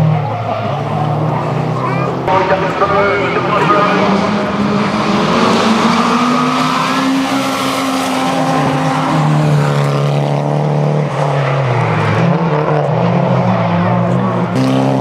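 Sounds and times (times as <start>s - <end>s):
rally car engine revving: 0.0s - 15.0s
tyres skidding: 0.0s - 15.0s.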